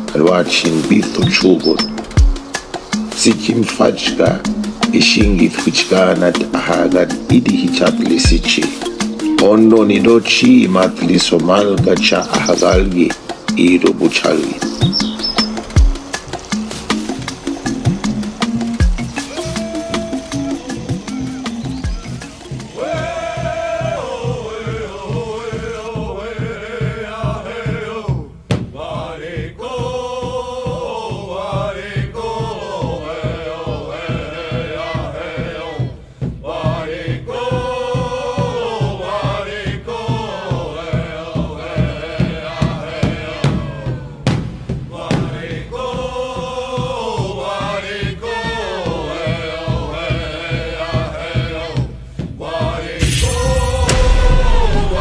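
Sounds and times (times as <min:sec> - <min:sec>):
chanted singing over a beat: 0:00.0 - 0:55.0.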